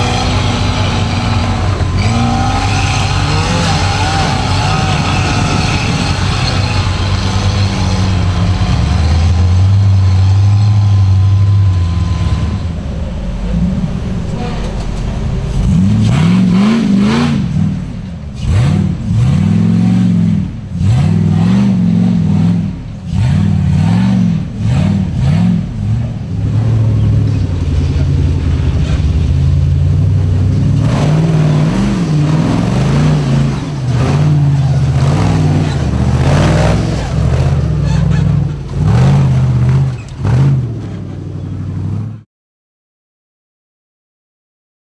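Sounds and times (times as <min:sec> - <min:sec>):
buggy engines revving: 0:00.0 - 0:42.2.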